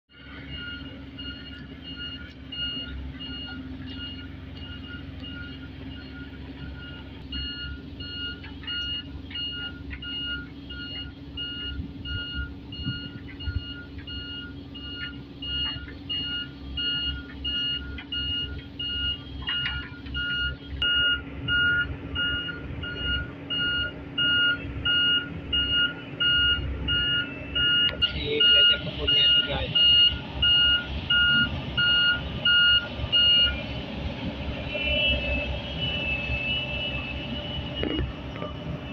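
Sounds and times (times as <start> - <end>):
excavator diesel engine running: 0.1 - 38.9
warning alarm beeping rapidly: 0.2 - 33.7.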